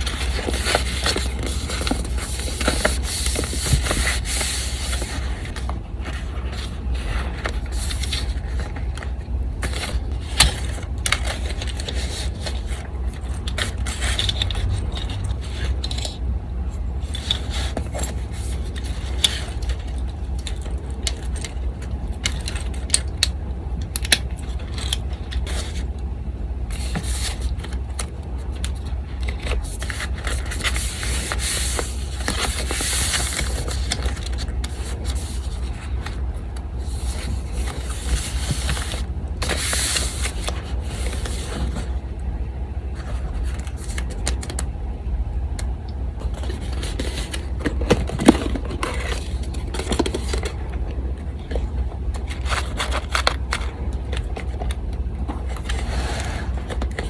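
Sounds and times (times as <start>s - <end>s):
paper rustling and scraping: 0.0s - 23.0s, 24.0s - 25.9s, 26.7s - 42.0s, 42.9s - 44.6s, 46.2s - 50.6s, 51.5s - 57.0s
electric fan humming: 0.0s - 57.0s.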